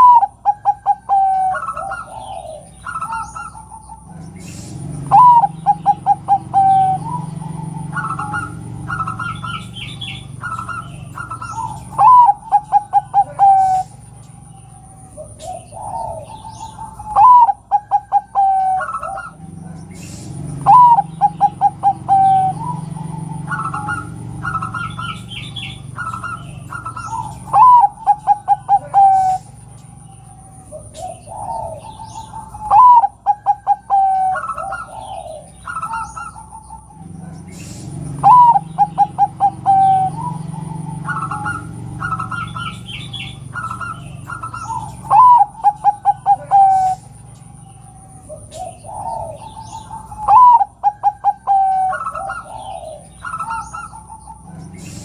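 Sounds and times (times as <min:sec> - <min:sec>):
dove cooing: 0:00.0 - 0:55.0
small birds chirping: 0:00.0 - 0:55.0.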